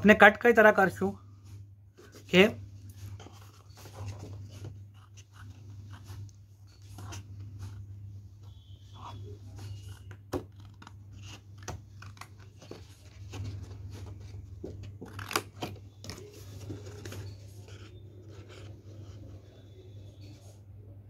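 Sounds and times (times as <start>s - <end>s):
paper rustling: 2.0s - 7.9s, 8.5s - 19.6s.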